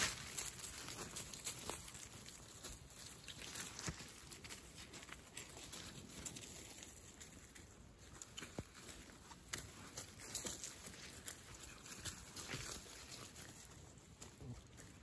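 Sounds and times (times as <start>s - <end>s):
footsteps on dry leaves: 0.0s - 15.0s.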